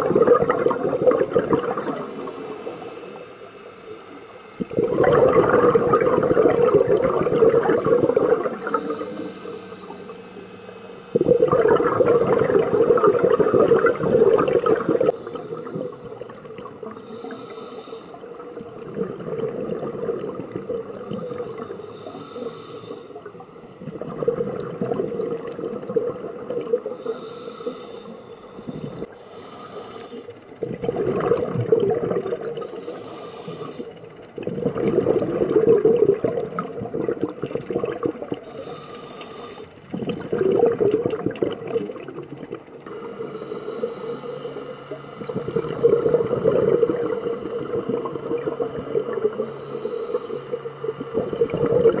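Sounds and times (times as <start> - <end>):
diver inhaling through regulator: 0.0 - 31.4, 32.2 - 34.2, 38.2 - 40.8, 42.8 - 52.0
exhaled bubbles underwater: 0.0 - 52.0.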